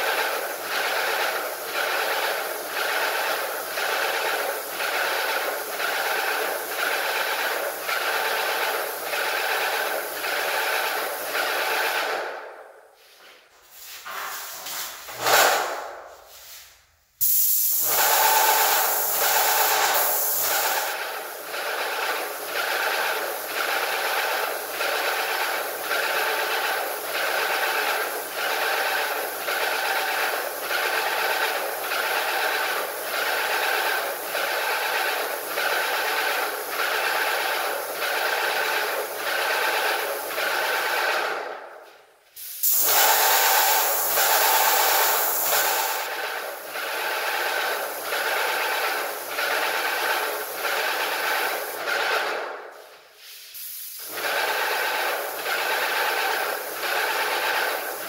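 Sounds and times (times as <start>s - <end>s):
paint sprayer hissing: 0.0s - 58.0s.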